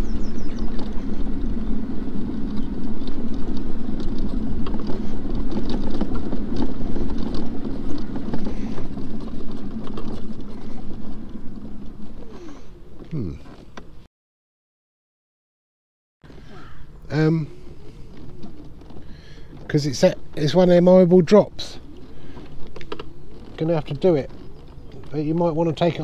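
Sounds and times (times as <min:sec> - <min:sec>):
knocks and rattles over bumps: 0:00.0 - 0:14.0, 0:18.0 - 0:26.0
scooter drive and tyres rumbling: 0:00.0 - 0:14.1, 0:16.2 - 0:26.0.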